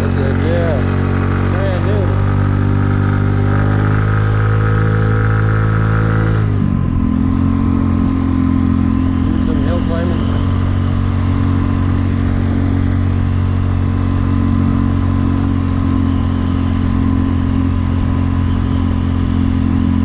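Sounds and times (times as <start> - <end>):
scooter engine running: 0.0 - 20.0.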